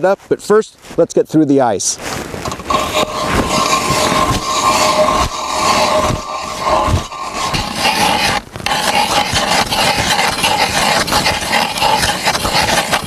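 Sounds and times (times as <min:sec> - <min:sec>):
ice auger grinding through ice: 0:02.4 - 0:13.0.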